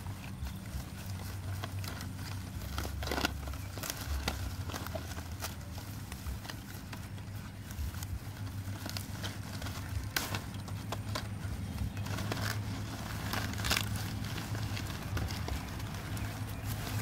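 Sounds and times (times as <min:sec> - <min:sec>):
palm leaves crackling: 0:00.0 - 0:17.0.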